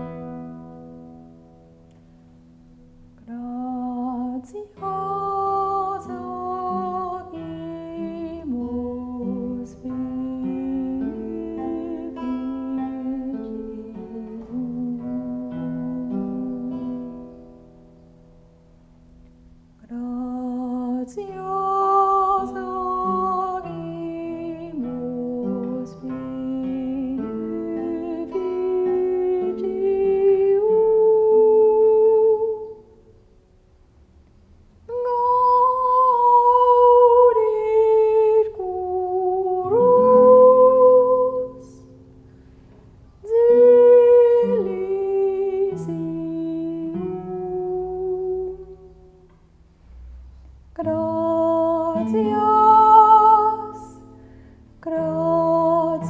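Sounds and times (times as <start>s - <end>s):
woman singing: 3.2s - 17.5s, 19.8s - 33.1s, 34.8s - 42.0s, 43.2s - 49.3s, 50.7s - 54.2s, 54.8s - 56.0s.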